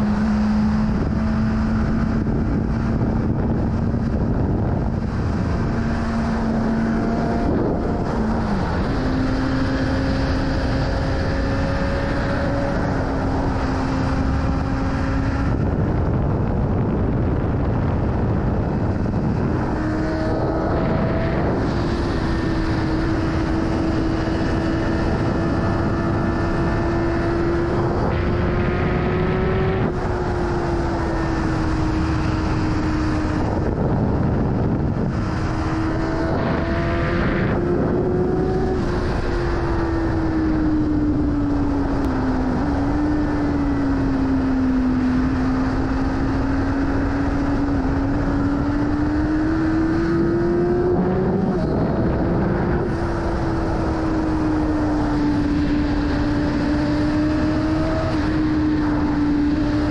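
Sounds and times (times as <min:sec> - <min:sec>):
motorcycle engine high revs: 0:00.0 - 0:16.2, 0:18.5 - 0:59.9
wind noise: 0:00.0 - 0:59.9.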